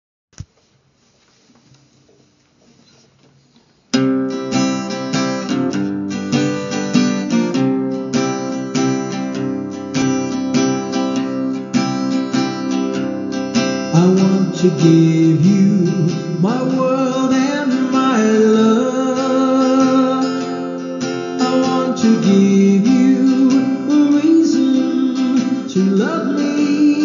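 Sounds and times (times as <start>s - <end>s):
acoustic guitar strumming: 3.9s - 27.0s.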